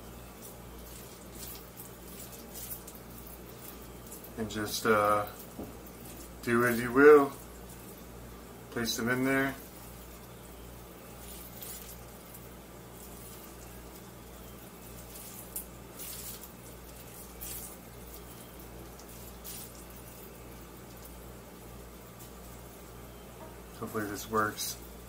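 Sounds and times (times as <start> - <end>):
hands squishing rice mixture: 0.0 - 8.2, 9.2 - 22.6
steady low hum: 0.0 - 25.0.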